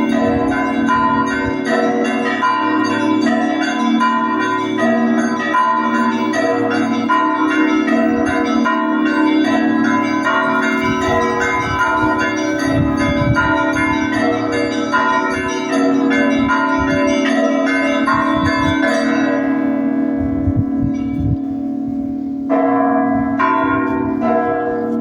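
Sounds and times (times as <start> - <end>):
small bells ringing pattern: 0.0 - 21.4
deep bell ringing: 0.0 - 25.0.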